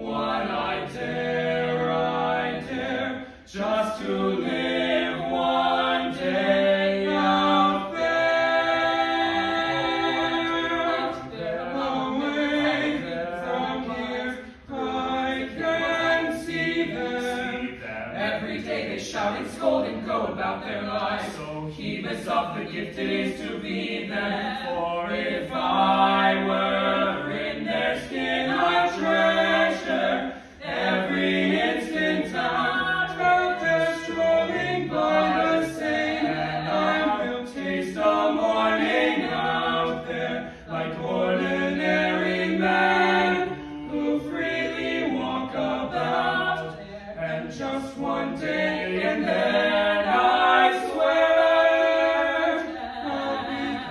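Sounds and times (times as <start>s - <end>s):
vocal quartet singing a cappella: 0.0s - 53.9s.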